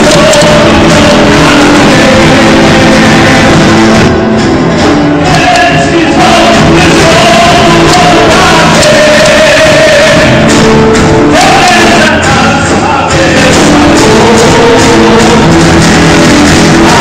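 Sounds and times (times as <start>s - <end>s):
church worship music: 0.0s - 17.0s
voices singing: 0.0s - 17.0s.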